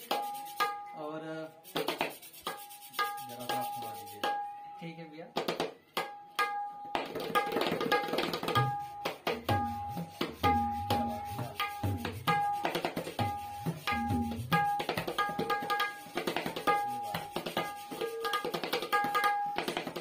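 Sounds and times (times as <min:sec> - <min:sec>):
tabla drumming: 0:00.0 - 0:01.0, 0:01.6 - 0:04.6, 0:05.3 - 0:20.0.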